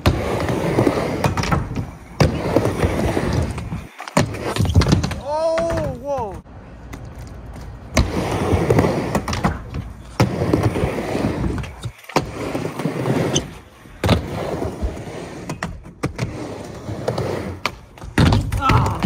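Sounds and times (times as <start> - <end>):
skateboard wheels rumbling on ramp: 0.0 - 6.5, 7.4 - 19.0.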